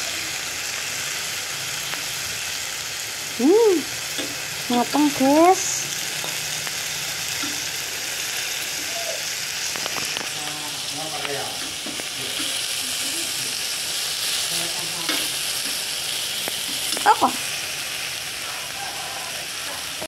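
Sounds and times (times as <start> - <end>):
skewers sizzling on grill: 0.0 - 20.0.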